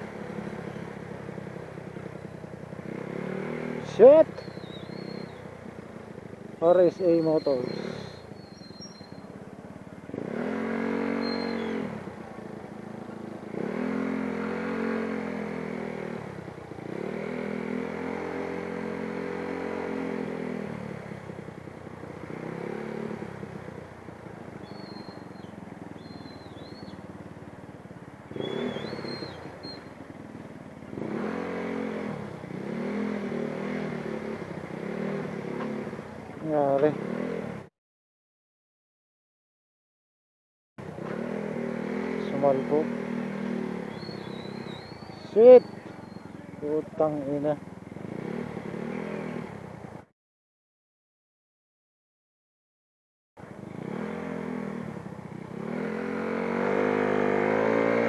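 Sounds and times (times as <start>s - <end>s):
motorcycle engine revving: 0.0s - 37.7s, 40.8s - 50.1s, 53.4s - 58.0s
traffic and road noise: 0.0s - 37.7s, 40.8s - 50.1s, 53.4s - 58.0s.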